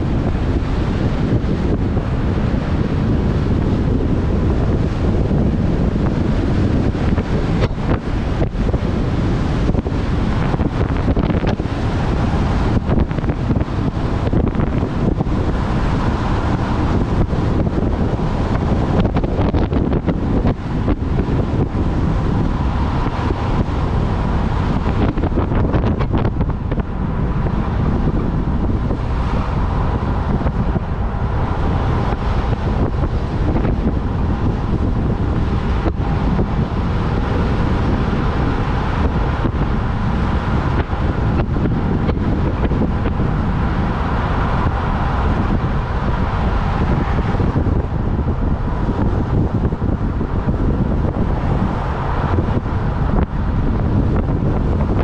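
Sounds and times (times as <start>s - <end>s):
road and engine noise: 0.0s - 55.0s
wind buffeting microphone: 0.0s - 55.0s.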